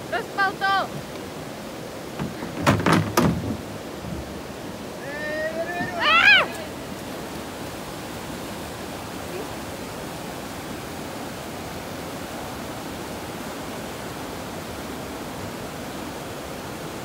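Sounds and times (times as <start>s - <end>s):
river water pouring over weir: 0.0s - 17.0s.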